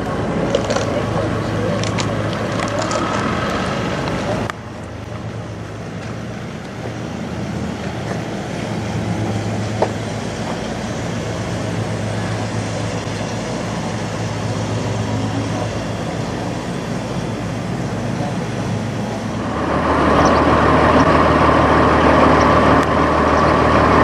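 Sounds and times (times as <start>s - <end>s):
even rushing noise: 0.0s - 24.0s
vehicle engine hum: 0.0s - 24.0s.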